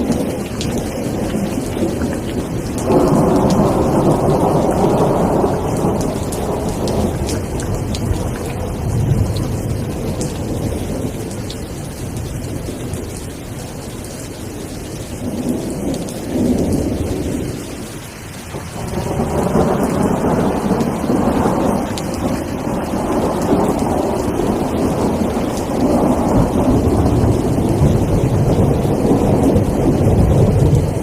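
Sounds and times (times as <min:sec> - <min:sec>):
rolling thunder: 0:00.0 - 0:13.2, 0:14.6 - 0:31.0
steady rain: 0:00.0 - 0:31.0.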